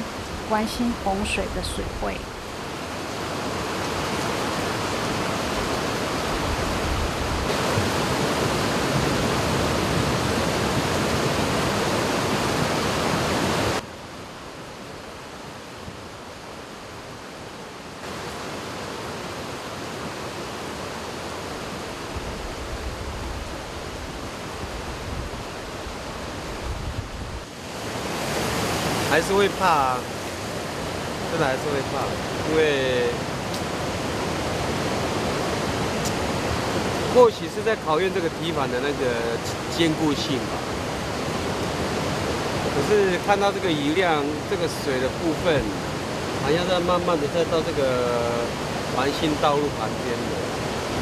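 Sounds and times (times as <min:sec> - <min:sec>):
heavy rain: 0:00.0 - 0:51.0
river rushing: 0:00.0 - 0:51.0.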